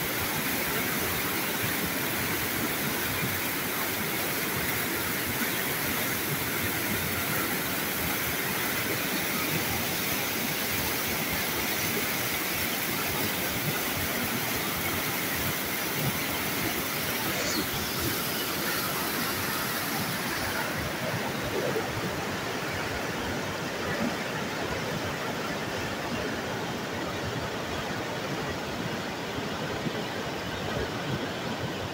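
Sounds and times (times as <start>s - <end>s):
white water rushing: 0.0s - 31.9s.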